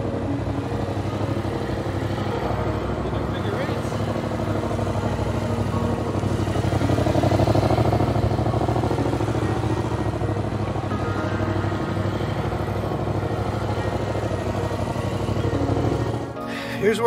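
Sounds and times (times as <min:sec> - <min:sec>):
motorcycle engine at low revs: 0:00.0 - 0:16.4.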